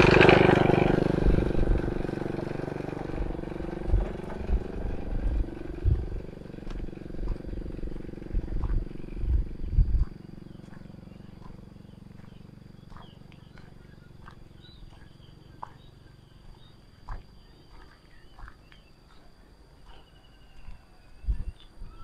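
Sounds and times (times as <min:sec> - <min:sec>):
low engine hum: 0:00.0 - 0:22.0
small birds chirping: 0:00.0 - 0:22.0
steady high-pitched whine: 0:00.0 - 0:22.0.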